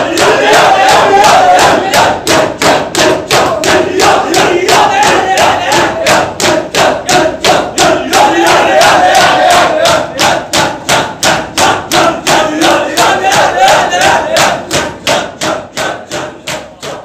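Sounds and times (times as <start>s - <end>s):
crowd beating chests: 0.0s - 17.0s
men shouting chants: 0.0s - 17.0s.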